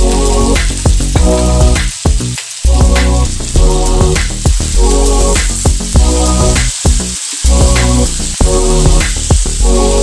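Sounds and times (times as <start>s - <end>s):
meat sizzling in a wok: 0.0s - 10.0s
music with heavy bass: 0.0s - 10.0s.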